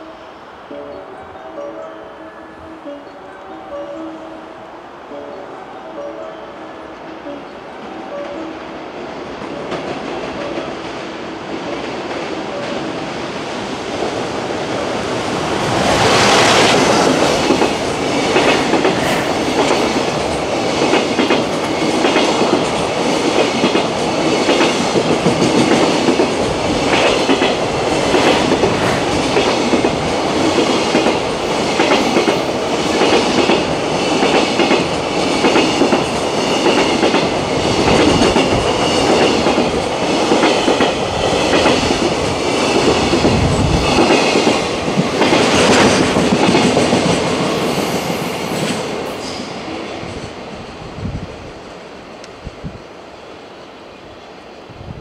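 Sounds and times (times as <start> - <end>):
train wheels rumbling on rail: 8.1 - 53.0.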